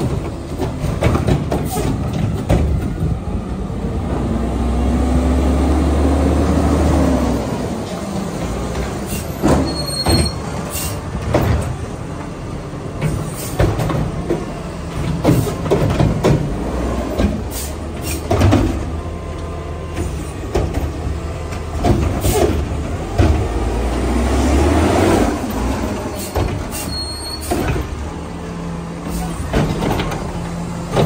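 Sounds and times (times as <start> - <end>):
garbage truck diesel engine: 0.0 - 31.0.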